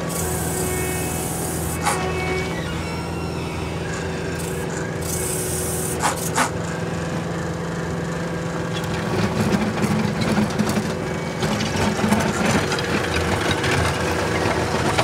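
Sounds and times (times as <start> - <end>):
rattling diesel engine running: 0.0 - 15.0.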